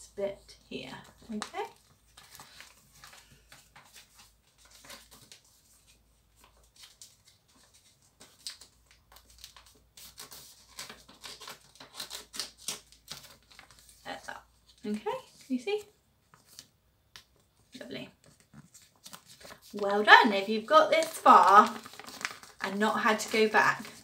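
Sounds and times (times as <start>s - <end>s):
paper rustling and crinkling: 1.0s - 24.0s.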